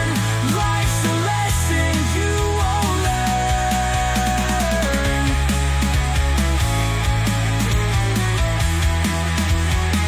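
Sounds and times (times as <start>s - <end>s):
distorted guitar: 0.0s - 10.0s
drums: 0.0s - 10.0s
heavy bass line: 0.0s - 10.0s.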